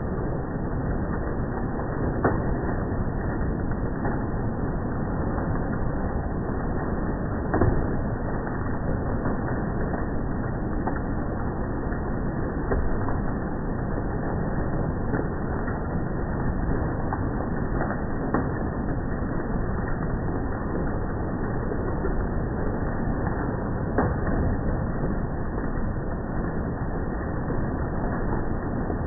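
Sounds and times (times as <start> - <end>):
heavy hail and rain: 0.0 - 29.0.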